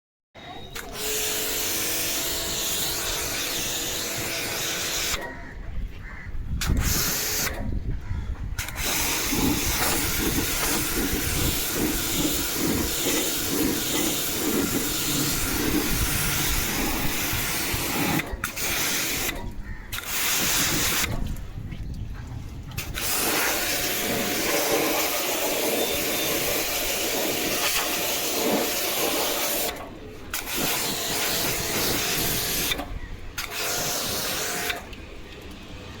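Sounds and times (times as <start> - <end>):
water jet spraying with hiss: 0.8 - 5.2, 6.8 - 7.6, 8.6 - 21.2, 22.8 - 32.8, 33.4 - 35.0.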